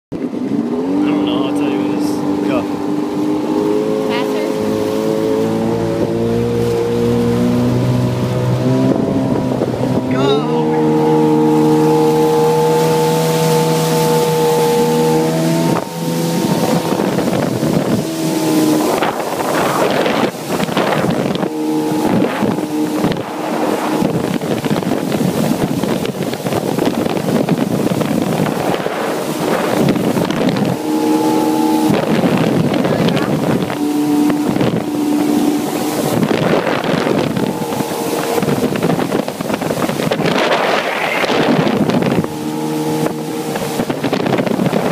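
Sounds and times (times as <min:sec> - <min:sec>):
jet ski engine running: 0:00.1 - 0:44.9
water rushing past hull: 0:00.1 - 0:44.9
wind buffeting microphone: 0:00.1 - 0:44.9.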